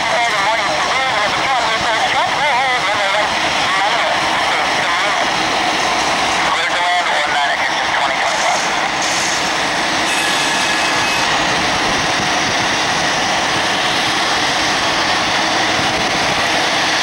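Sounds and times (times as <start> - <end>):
jet engines at climb power: 0.0 - 17.0.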